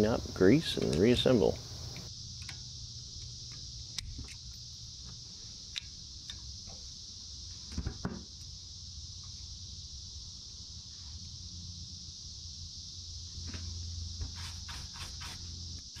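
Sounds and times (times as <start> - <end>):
cicada drone: 0.0 - 16.0.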